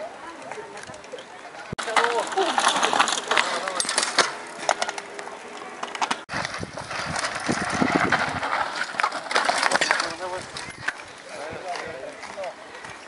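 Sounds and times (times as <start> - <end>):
bikes rattling and clicking: 0.0 - 13.0
bike tyres crunching on gravel: 1.8 - 13.0.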